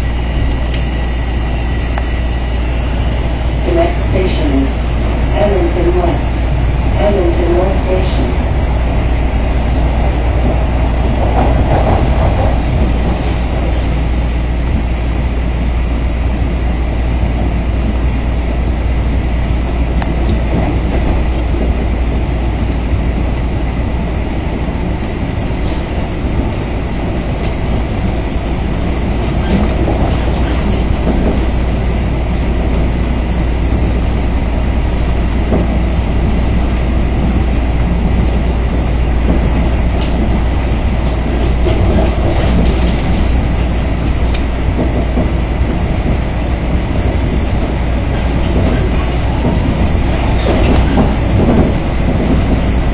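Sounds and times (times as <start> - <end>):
subway train rumbling: 0.0 - 52.9.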